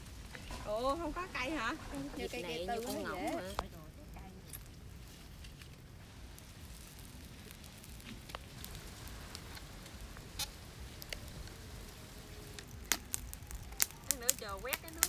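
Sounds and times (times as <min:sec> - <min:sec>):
charcoal fire crackling: 0:00.0 - 0:15.0
low steady rumble: 0:00.0 - 0:15.0.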